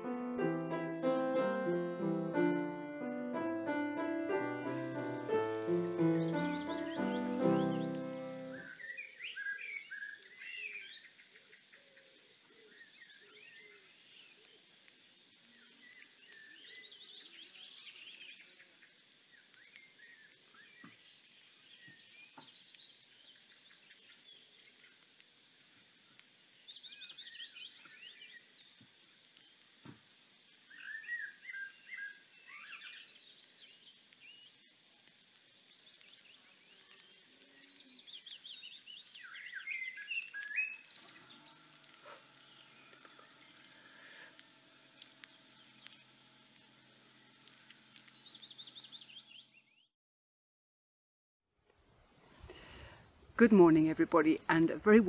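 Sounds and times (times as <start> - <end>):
small birds singing and chirping: 0.0 - 29.8, 30.5 - 49.9.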